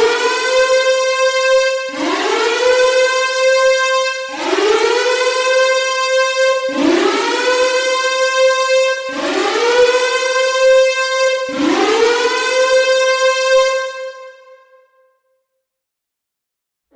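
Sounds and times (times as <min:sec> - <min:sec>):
civil defense siren: 0:00.0 - 0:15.6.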